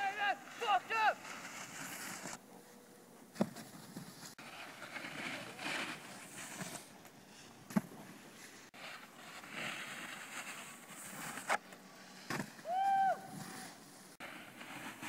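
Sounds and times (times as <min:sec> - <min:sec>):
snowboard scraping on hard snow: 0:00.1 - 0:02.4, 0:03.4 - 0:12.7, 0:13.3 - 0:15.0.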